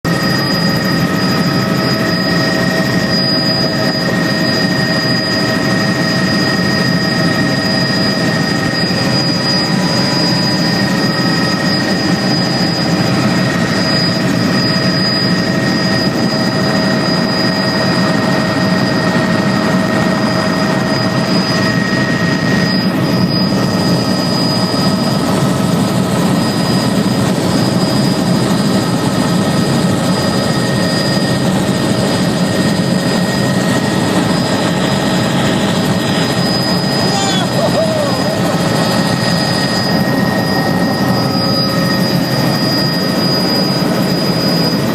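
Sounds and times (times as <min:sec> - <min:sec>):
loud mechanical drone with whining: 0:00.1 - 0:44.9.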